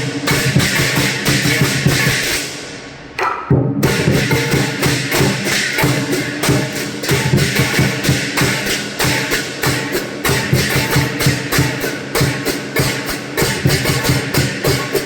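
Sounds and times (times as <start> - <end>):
lion drum beaten fast: 0.0 - 2.3, 3.2 - 15.0
gong: 0.0 - 2.5, 3.8 - 15.0
crashing cymbals: 0.0 - 3.2, 3.8 - 15.0.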